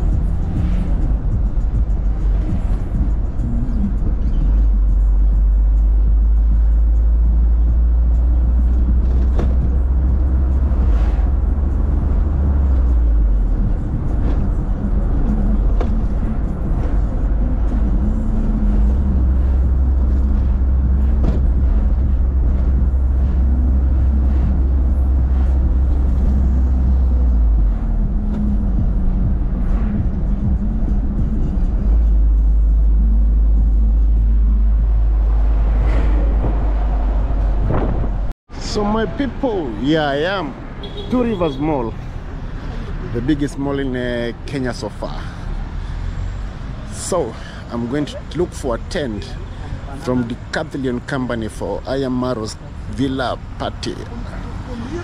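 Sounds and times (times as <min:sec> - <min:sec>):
music playing: 0:00.0 - 0:46.3
vehicle low rumble: 0:00.0 - 0:55.0.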